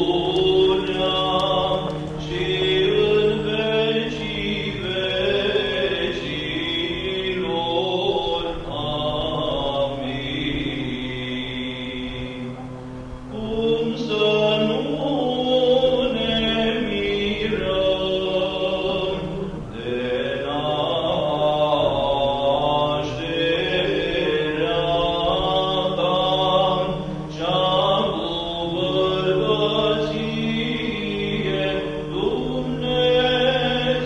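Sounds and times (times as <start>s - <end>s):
low drone: 0.0s - 34.0s
slow vocal chanting: 0.0s - 34.0s.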